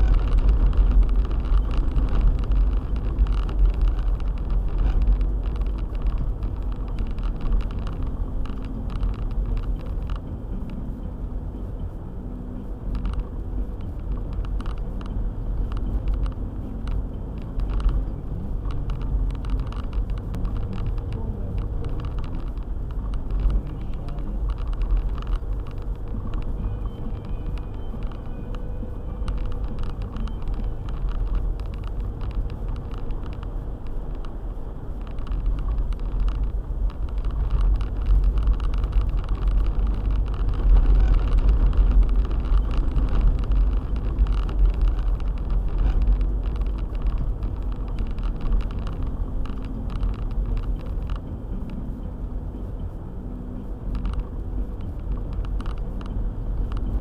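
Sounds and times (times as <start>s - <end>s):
car driving on snowy road: 0.0s - 57.0s.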